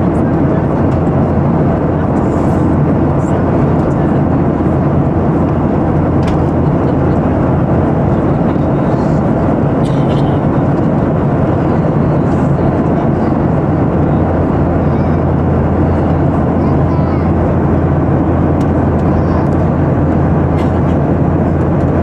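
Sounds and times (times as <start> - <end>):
jet engine drone: 0.0 - 22.0.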